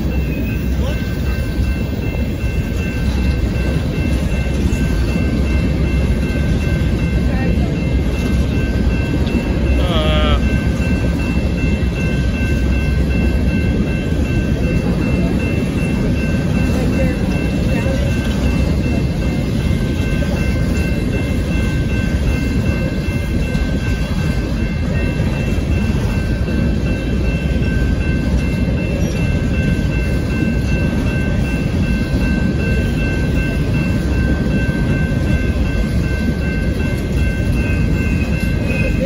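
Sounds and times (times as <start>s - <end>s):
steel train wheels rumbling on rails: 0.0s - 39.0s.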